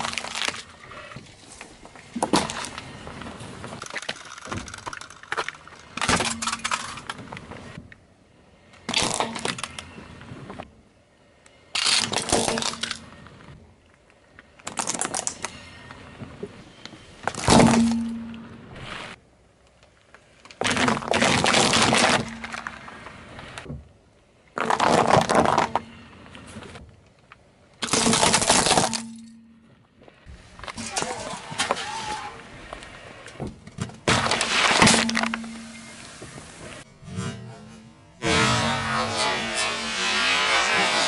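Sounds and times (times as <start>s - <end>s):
car tyre crushing objects: 0.0s - 7.9s, 8.8s - 10.7s, 11.7s - 13.6s, 14.4s - 19.2s, 20.0s - 41.0s.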